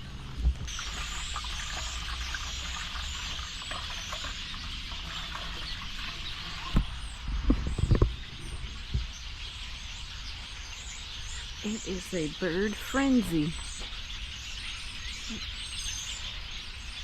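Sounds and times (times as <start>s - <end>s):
flock of birds chattering: 0.8s - 17.0s.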